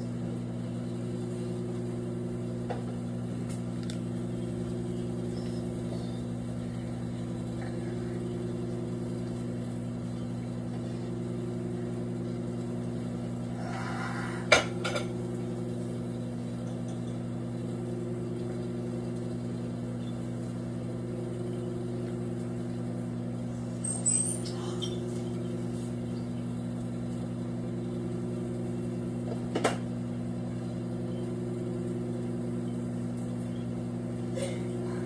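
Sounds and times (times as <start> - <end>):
microwave oven humming: 0.0 - 35.0.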